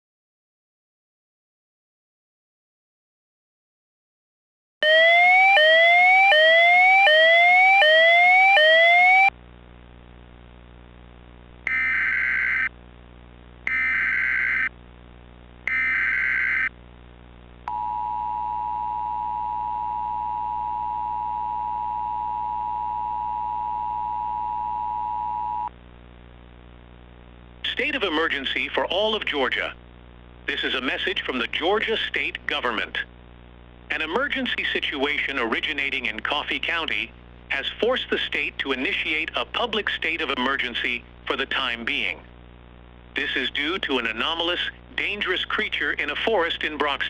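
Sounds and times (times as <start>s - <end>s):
low electrical hum: 9.3s - 47.0s.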